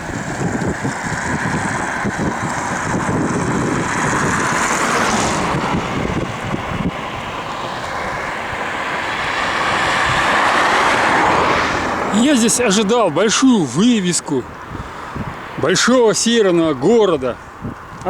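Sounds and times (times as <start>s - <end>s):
tyre and engine rumble: 0.0s - 18.0s
wind noise: 0.0s - 18.0s.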